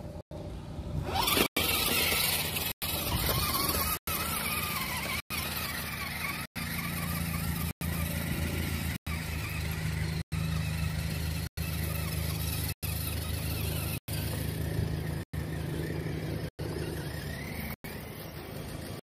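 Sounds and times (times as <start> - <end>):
electric motor and drivetrain whining: 0.0 - 19.0.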